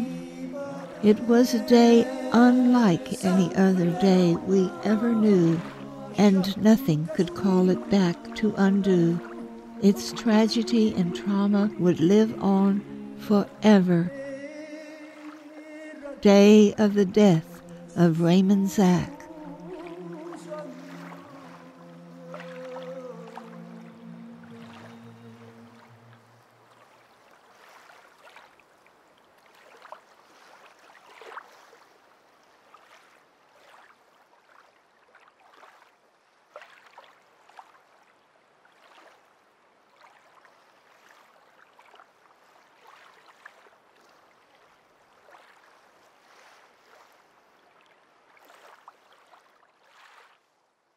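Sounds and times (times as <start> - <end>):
small waves lapping on shore: 0.0 - 50.9.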